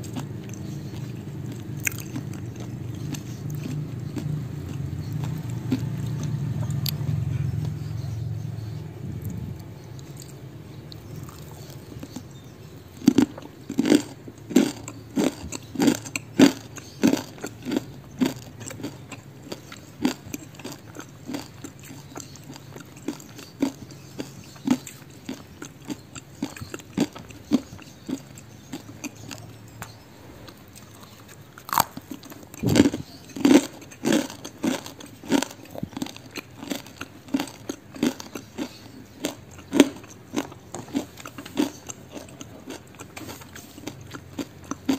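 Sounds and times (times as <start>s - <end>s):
person chewing crunchy snack: 0.0s - 44.9s.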